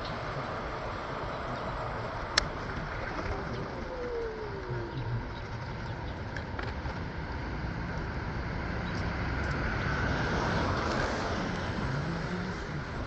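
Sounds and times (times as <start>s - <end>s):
city street traffic: 0.0s - 13.0s
vehicle passing: 0.0s - 13.0s.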